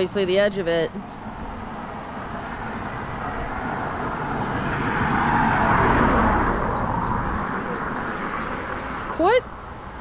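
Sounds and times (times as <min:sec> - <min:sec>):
car tyre noise passing: 0:01.2 - 0:10.0.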